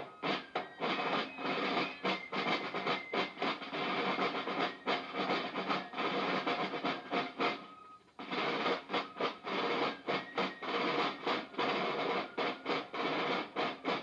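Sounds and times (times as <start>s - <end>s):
snare drums playing rolls: 0.0s - 14.0s.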